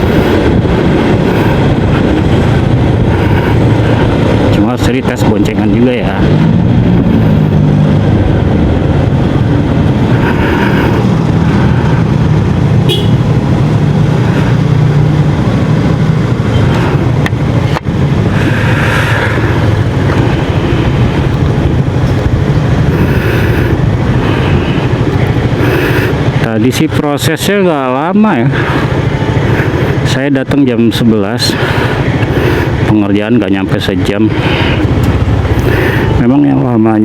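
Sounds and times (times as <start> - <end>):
scooter engine running: 0.0 - 4.5, 6.3 - 26.9, 27.8 - 30.3, 34.2 - 36.3
road and traffic noise: 0.0 - 37.0.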